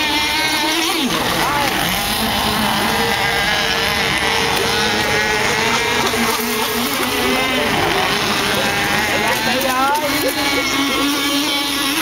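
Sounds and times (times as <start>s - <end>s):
model boat engine whining: 0.0s - 12.0s.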